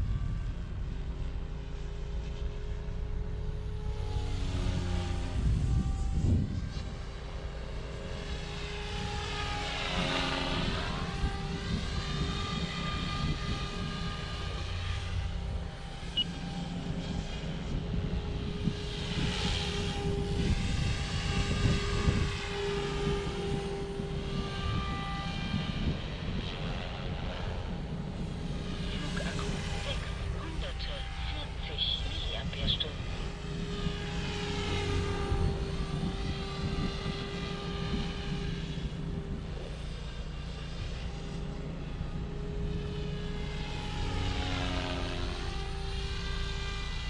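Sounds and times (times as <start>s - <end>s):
rc helicopter motor and rotor whine: 0.0s - 47.0s.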